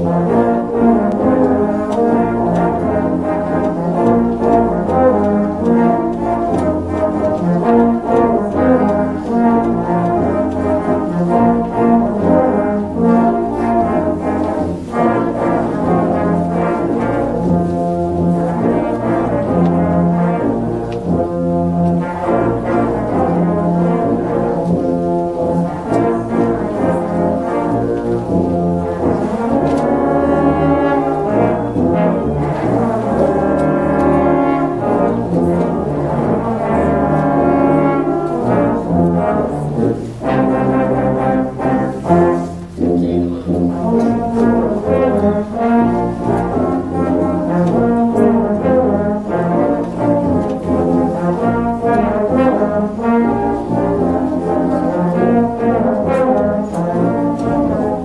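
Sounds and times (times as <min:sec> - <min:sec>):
low brass ensemble playing: 0:00.0 - 0:58.0.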